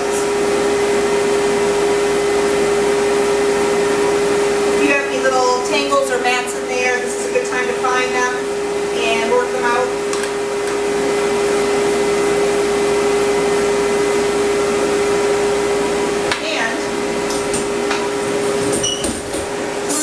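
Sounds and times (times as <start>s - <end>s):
dryer blowing air: 0.0s - 20.0s.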